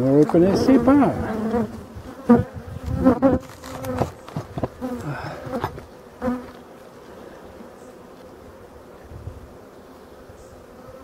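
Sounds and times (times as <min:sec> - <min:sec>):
bees buzzing past: 0:00.2 - 0:11.0.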